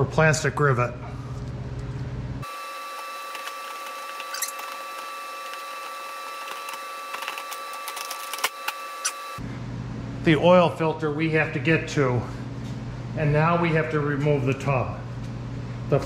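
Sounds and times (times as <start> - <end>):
steady high hum: 0.0 - 16.0.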